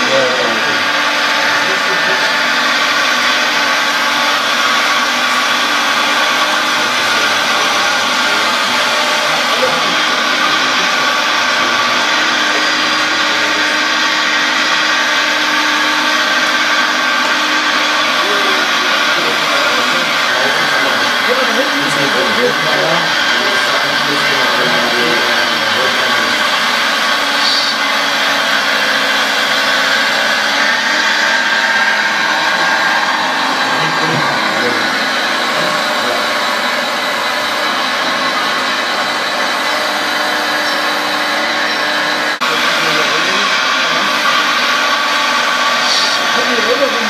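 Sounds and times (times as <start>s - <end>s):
hydraulic pump whine: 0.0s - 47.0s.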